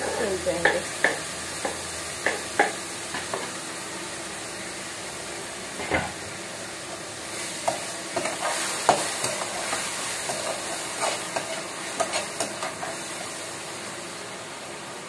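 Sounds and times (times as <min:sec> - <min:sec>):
onions sizzling in a pot: 0:00.0 - 0:15.0.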